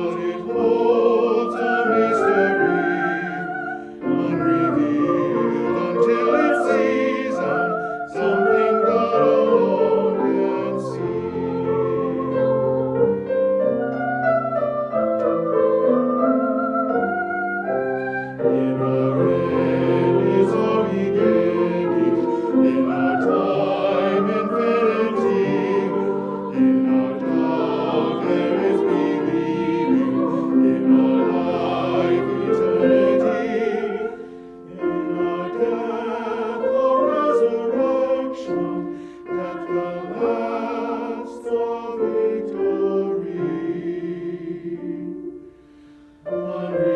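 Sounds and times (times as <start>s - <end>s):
choir singing hymn: 0.0s - 46.9s
keyboard accompaniment: 0.0s - 46.9s.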